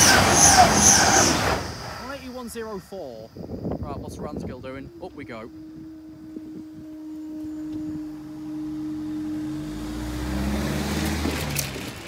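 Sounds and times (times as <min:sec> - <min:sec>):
car engine rumble: 0:00.0 - 0:03.8, 0:04.9 - 0:12.0
hydraulic power unit humming: 0:00.0 - 0:12.0.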